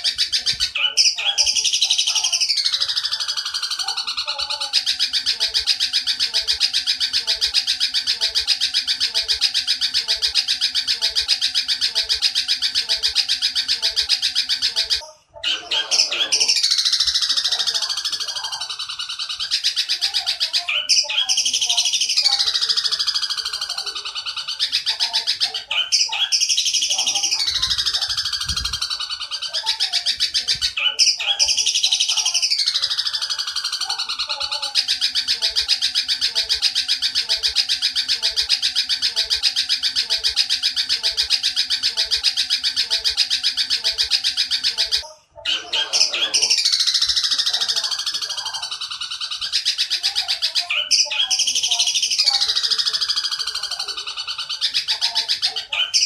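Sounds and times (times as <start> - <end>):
bird singing buzzy chatter: 0.0 - 56.0.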